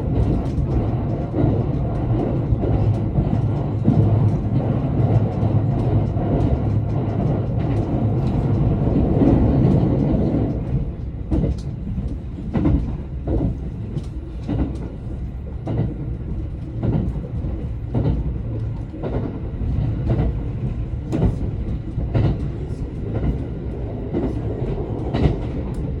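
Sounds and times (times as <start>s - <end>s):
train interior low rumble: 0.0s - 26.0s.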